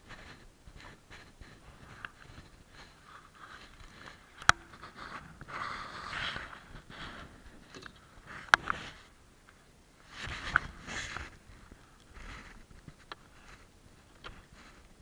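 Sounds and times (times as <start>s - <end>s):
clothing rustling on camera: 0.0s - 9.2s, 10.0s - 15.0s.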